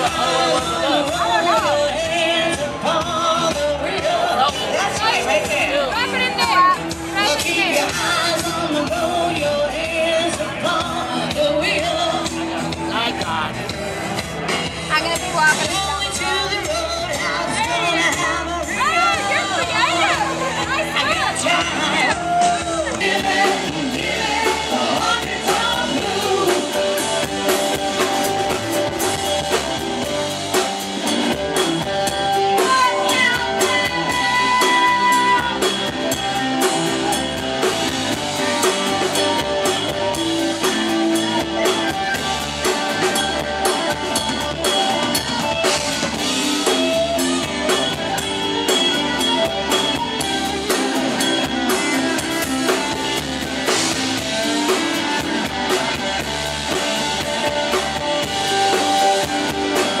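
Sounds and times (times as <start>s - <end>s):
drum kit beat: 0.0s - 60.0s
electric guitar: 0.0s - 60.0s.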